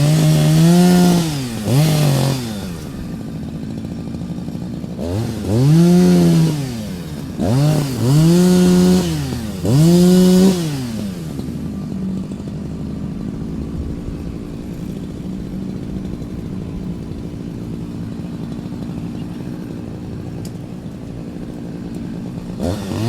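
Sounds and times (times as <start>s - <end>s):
chainsaw engine idling and revving: 0.0s - 23.0s.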